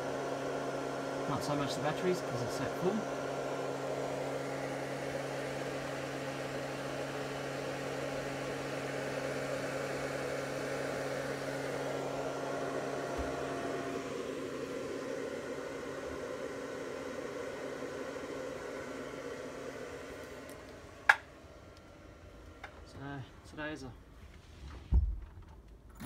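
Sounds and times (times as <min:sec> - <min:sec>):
cooling fan whirring: 0:00.0 - 0:24.9
low electrical hum: 0:01.2 - 0:26.0.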